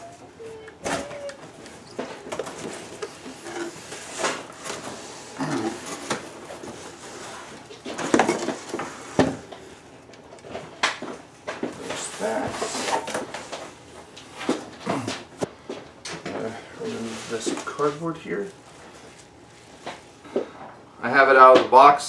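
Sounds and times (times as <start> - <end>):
cardboard and packing rustling: 0.0 - 20.6.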